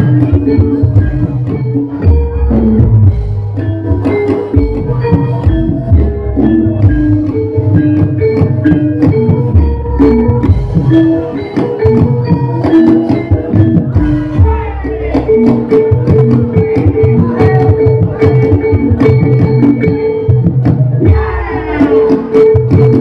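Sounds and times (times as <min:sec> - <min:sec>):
gamelan music: 0:00.0 - 0:23.0.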